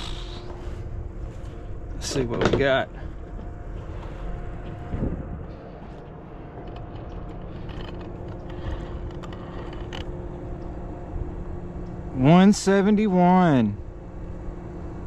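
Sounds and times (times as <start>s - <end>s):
faint low drone: 0.0s - 15.0s
low background hum: 0.0s - 15.0s.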